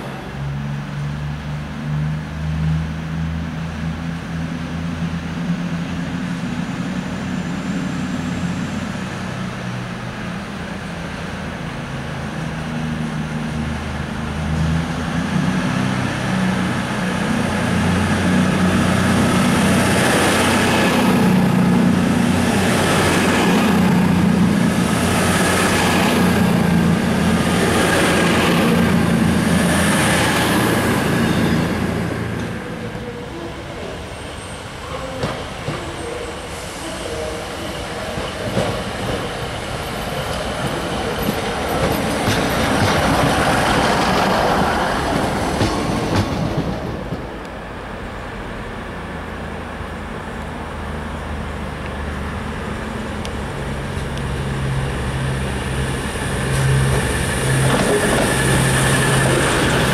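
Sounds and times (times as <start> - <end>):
diesel train passing: 0.0 - 59.9
train cars rushing past: 0.0 - 59.9.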